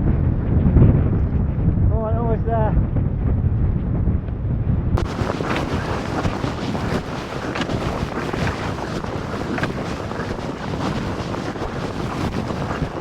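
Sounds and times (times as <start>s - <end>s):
blizzard wind gusting: 0.0s - 13.0s.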